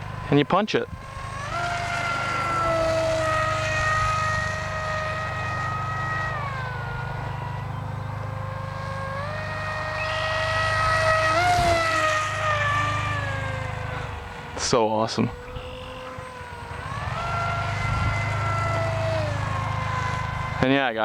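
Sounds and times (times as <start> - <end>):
model plane motor whining: 0.0 - 21.0.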